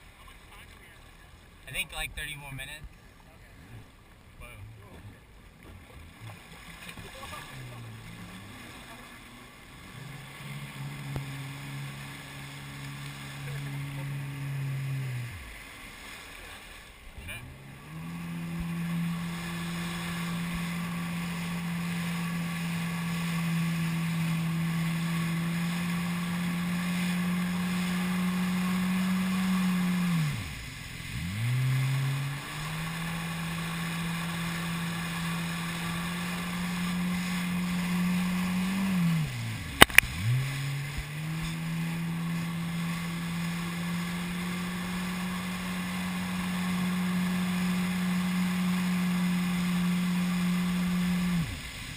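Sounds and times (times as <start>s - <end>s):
jet ski engine revving: 0.0s - 51.9s.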